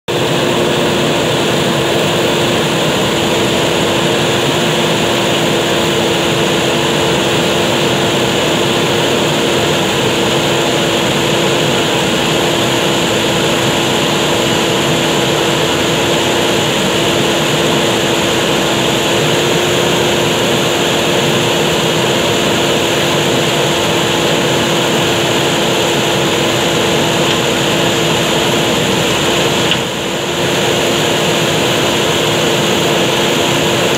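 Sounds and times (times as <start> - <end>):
diesel engine running at high revs: 0.0 - 33.9.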